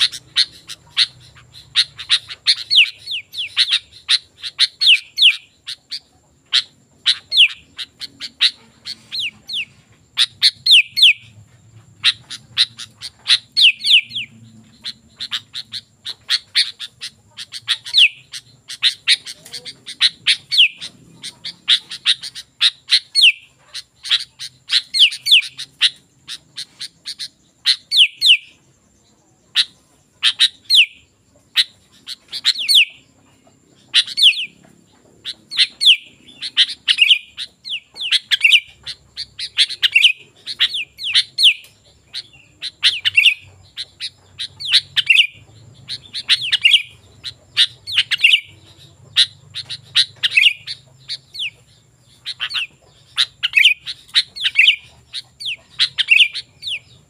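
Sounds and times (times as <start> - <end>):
bulbul chattering song: 0.0 - 57.0.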